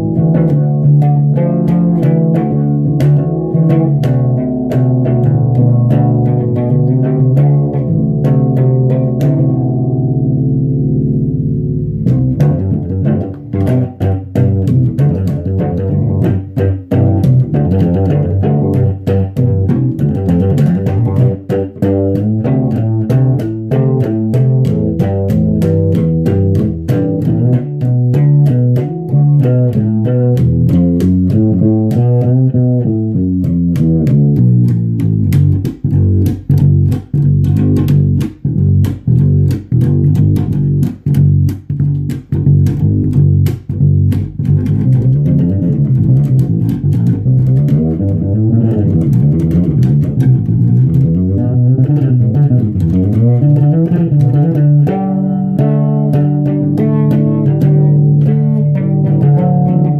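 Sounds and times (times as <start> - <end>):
electric bass strummed and plucked: 0.0 - 59.9.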